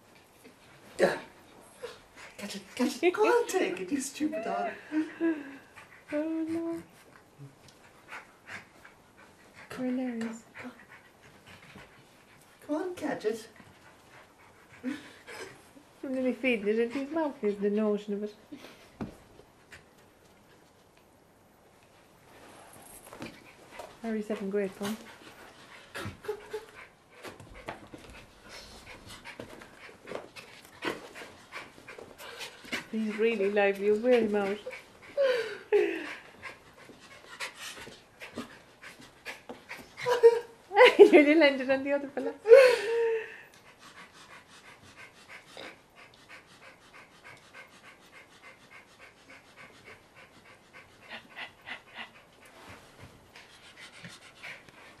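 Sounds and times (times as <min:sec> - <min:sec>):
dog panting: 0:00.1 - 0:20.8, 0:22.8 - 0:42.5, 0:43.5 - 0:55.0.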